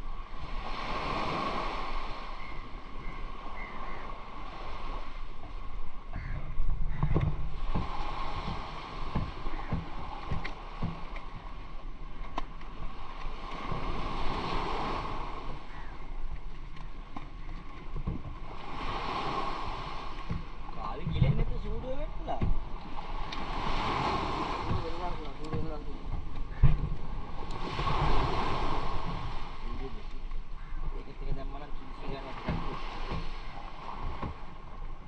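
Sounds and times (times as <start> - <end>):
surf: 0.0 - 35.0
wind: 0.0 - 35.0.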